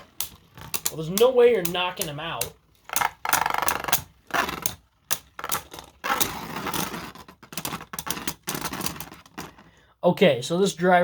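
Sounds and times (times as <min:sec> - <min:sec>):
spinning tops scraping and clacking: 0:00.0 - 0:09.7.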